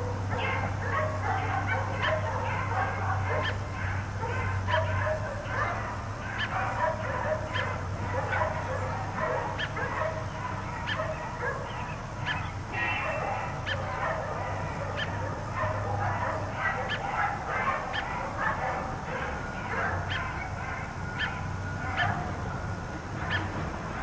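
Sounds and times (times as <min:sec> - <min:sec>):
dogs barking yappily: 0:00.0 - 0:24.0.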